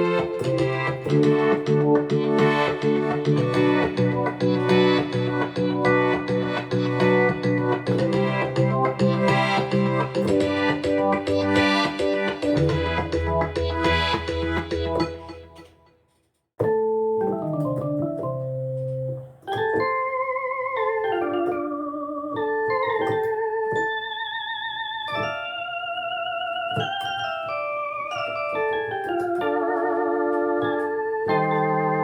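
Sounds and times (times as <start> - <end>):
synthesizer melody with vibrato: 0.0 - 15.9, 19.5 - 32.0.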